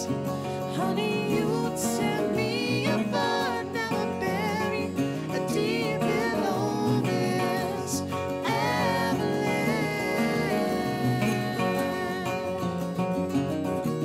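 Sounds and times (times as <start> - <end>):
song with acoustic guitar: 0.0 - 14.0.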